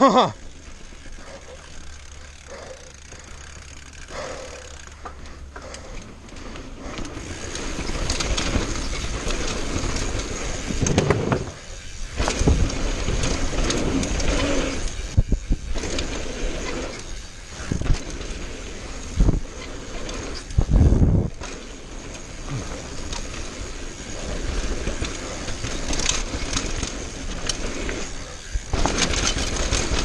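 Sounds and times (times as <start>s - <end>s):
bike rattling: 0.0s - 30.0s
bike tyres rolling on dirt: 0.3s - 30.0s.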